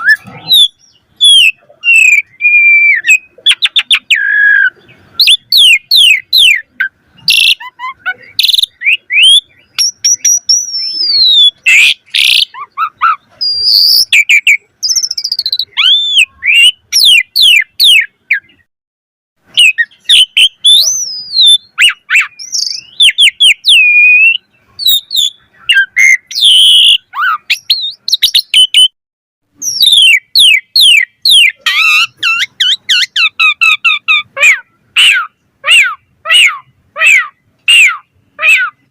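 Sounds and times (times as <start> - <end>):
starling singing: 0.0 - 18.7, 19.4 - 29.0, 29.6 - 38.9.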